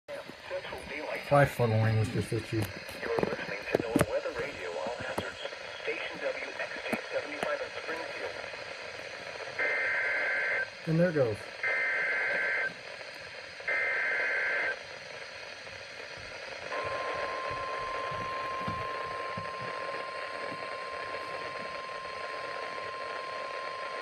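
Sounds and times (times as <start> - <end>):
static hiss: 0.1 - 24.0
steady warning alarm tone: 0.2 - 24.0.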